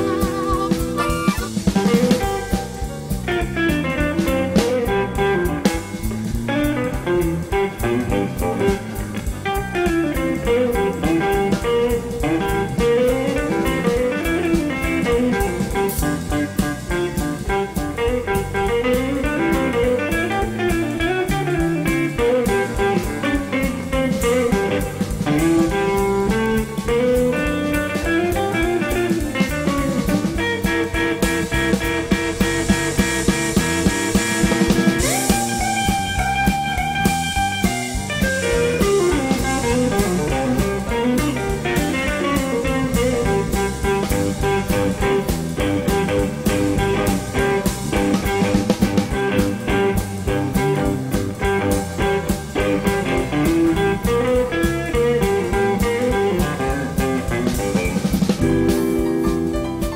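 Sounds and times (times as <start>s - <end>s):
drum kit: 0.0s - 59.9s
electric bass: 0.0s - 59.9s
electric guitar lead: 0.0s - 59.9s.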